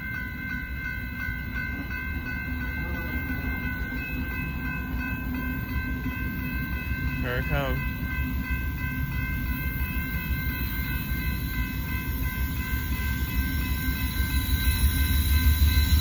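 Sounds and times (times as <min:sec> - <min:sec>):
railroad crossing bell ringing: 0:00.0 - 0:16.0
train rumbling: 0:00.0 - 0:16.0.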